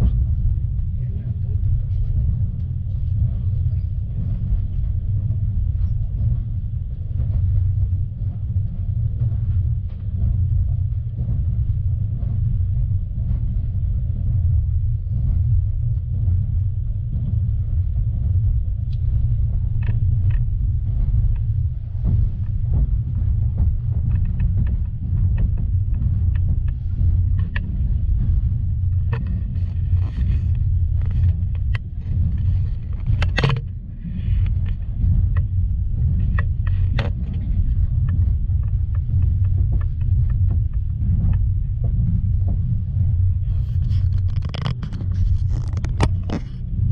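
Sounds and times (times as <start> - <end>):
train carriage rumble: 0.0 - 46.9
train wheels clicking and knocking: 0.2 - 46.6.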